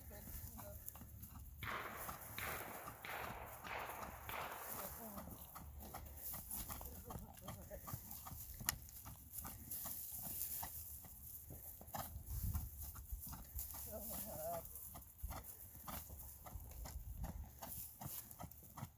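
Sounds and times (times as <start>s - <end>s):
hooves trotting on turf: 0.0s - 18.9s.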